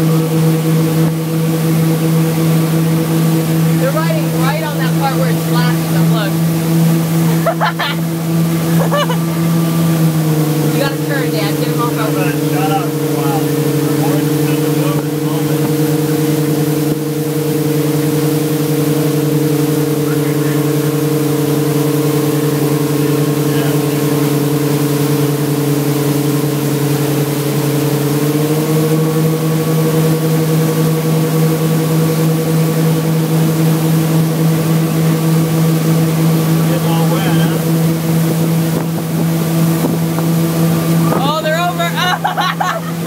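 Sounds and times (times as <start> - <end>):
motorboat engine running: 0.0 - 43.0.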